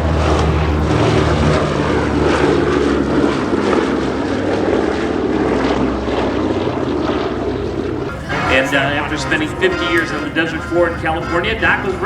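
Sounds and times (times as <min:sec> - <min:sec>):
bomber piston engines droning: 0:00.0 - 0:12.0.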